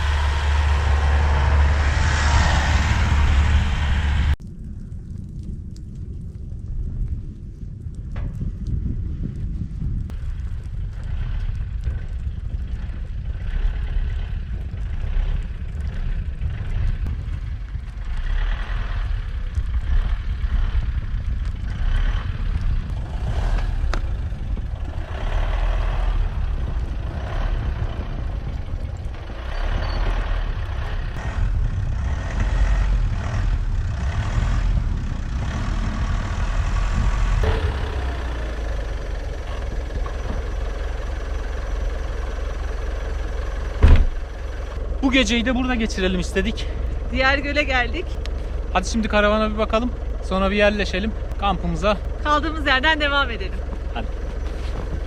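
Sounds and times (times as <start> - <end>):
road noise: 0.0 - 5.6, 6.7 - 55.0
truck engine rumbling: 0.0 - 55.0.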